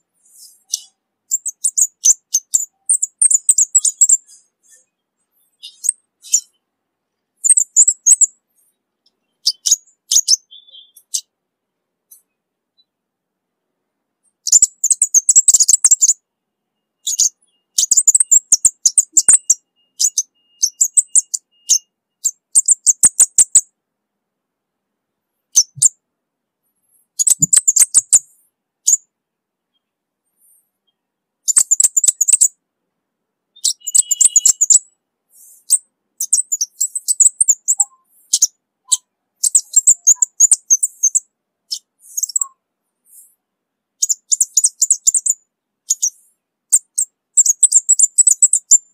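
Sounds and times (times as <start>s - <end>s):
bird high rapid ticking song: 0.0s - 6.7s, 7.4s - 11.4s, 14.2s - 23.8s, 25.4s - 26.0s, 26.8s - 29.1s, 29.7s - 32.6s, 33.5s - 43.4s, 44.0s - 48.9s.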